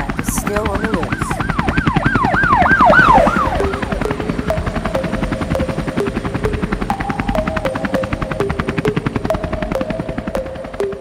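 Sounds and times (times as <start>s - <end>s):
helicopter rotor chopping: 0.0s - 11.0s
synth line of held notes: 0.4s - 11.0s.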